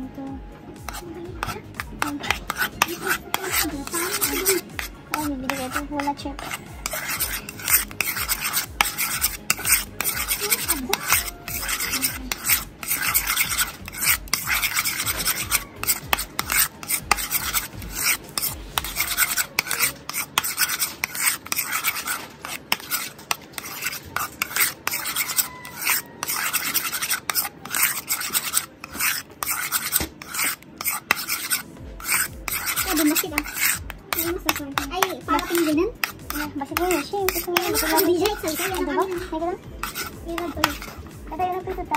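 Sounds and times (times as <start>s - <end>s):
metal spoon scraping ceramic bowl: 0.8s - 41.9s.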